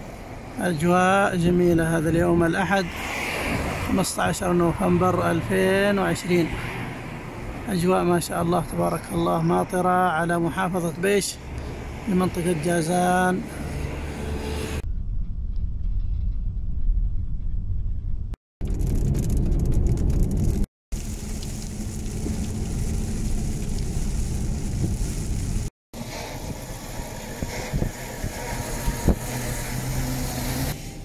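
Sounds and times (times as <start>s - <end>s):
car engine and tyre rumble: 0.0s - 14.8s, 18.6s - 31.0s.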